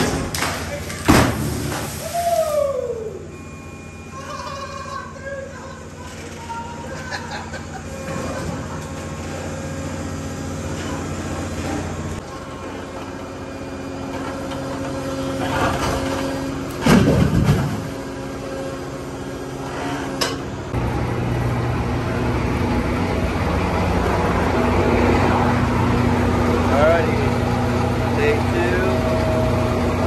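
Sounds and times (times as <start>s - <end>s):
hydraulic machine humming: 5.7s - 30.0s.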